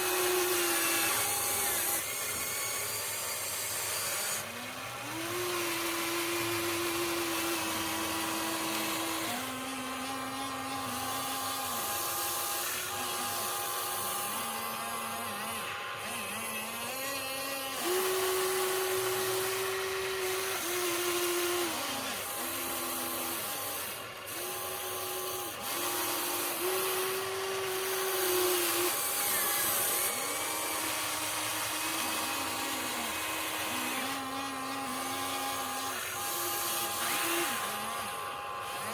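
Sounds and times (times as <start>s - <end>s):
electric gear motors whining: 0.0s - 38.9s.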